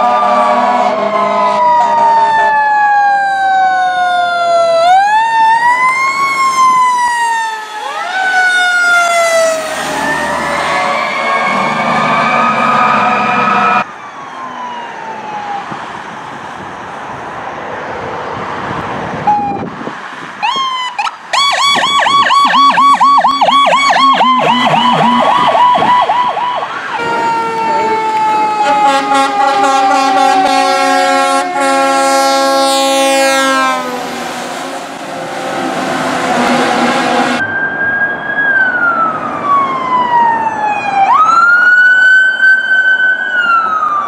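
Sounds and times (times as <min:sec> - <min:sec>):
yelp siren: 0:00.0 - 0:16.0, 0:19.2 - 0:19.7, 0:20.4 - 0:44.0
fire engine siren: 0:00.0 - 0:16.9, 0:19.1 - 0:19.8, 0:20.4 - 0:44.0.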